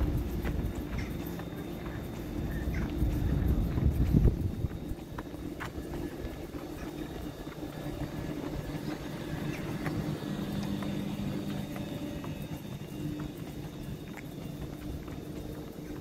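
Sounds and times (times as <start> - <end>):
train carriage low hum: 0.0 - 16.0.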